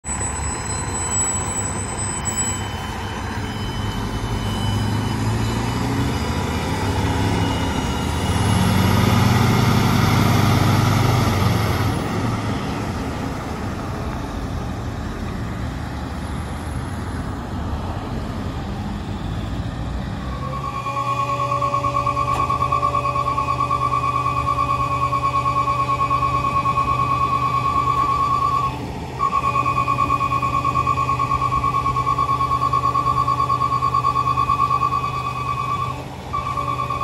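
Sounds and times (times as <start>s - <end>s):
road traffic noise: 0.0s - 37.0s
fire truck diesel engine driving past: 0.1s - 37.0s.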